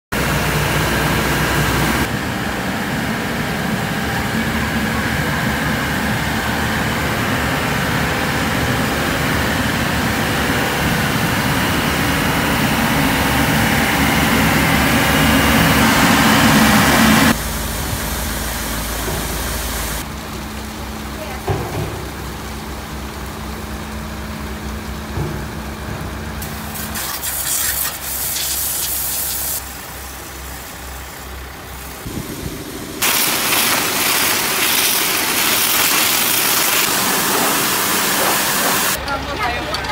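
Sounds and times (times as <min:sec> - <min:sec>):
road sweeper truck running: 0:00.1 - 0:39.9.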